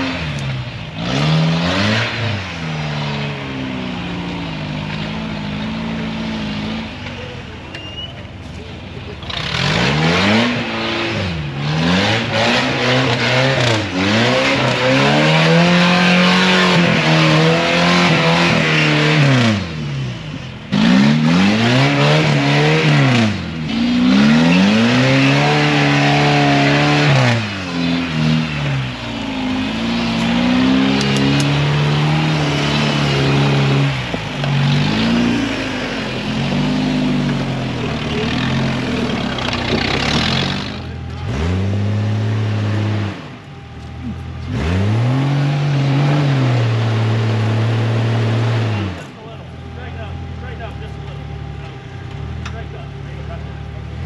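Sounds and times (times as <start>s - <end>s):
engine revving: 0.0s - 7.8s, 8.5s - 54.0s.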